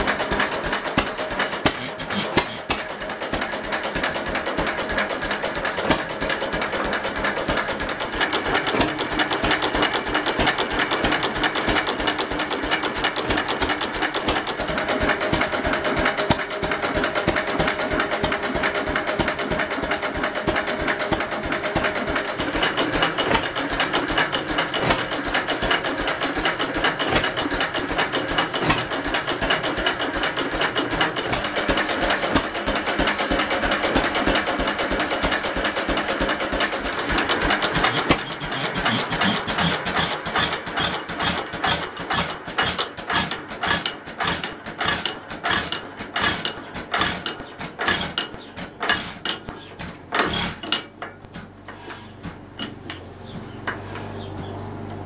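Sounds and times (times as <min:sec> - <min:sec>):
stationary engine ticking clatter: 0:00.0 - 0:55.0.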